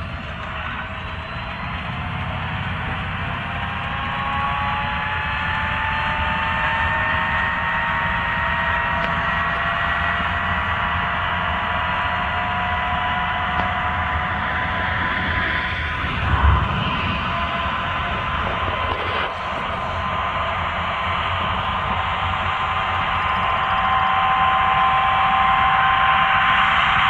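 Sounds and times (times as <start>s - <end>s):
rising whine: 0.0s - 27.0s
tractor diesel engine rumble: 0.0s - 27.0s.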